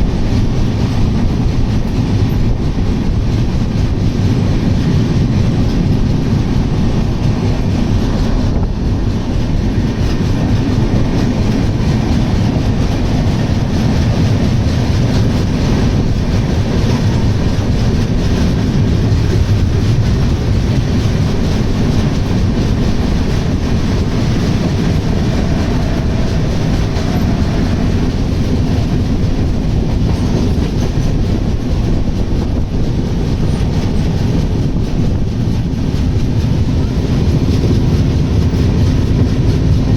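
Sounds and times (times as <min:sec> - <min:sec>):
clatter over rail joints: 0:00.0 - 0:39.9
train wheels rumbling on track: 0:00.0 - 0:39.9.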